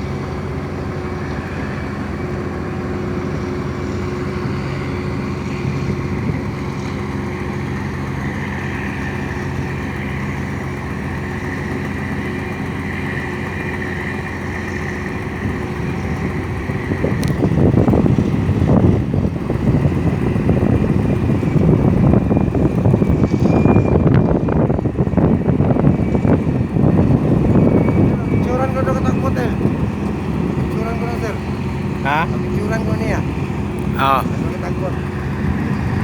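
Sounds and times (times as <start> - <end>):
boat diesel engine humming: 0.0 - 36.0
wind rumble on microphone: 0.0 - 36.0.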